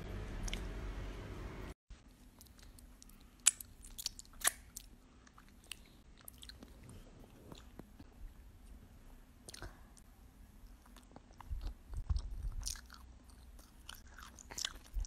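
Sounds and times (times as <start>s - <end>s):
child chewing and lip-smacking: 2.1s - 8.8s, 9.4s - 15.0s.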